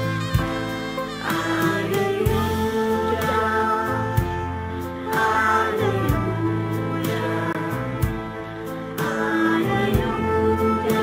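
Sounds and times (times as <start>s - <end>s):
bass guitar: 0.0s - 11.0s
violin: 0.0s - 11.0s
young voices singing together: 0.0s - 11.0s.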